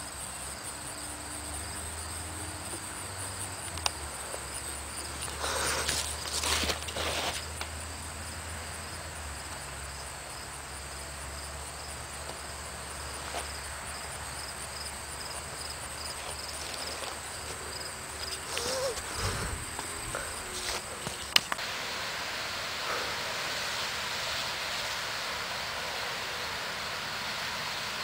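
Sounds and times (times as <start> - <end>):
background hiss: 0.0 - 28.0
crickets chirping: 0.0 - 28.0.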